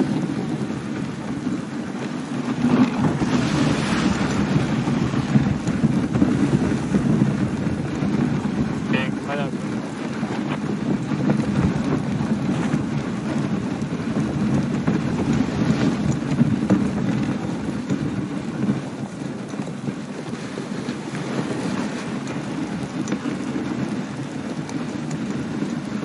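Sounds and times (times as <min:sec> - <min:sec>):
sled runners rushing over snow: 0:00.0 - 0:26.0.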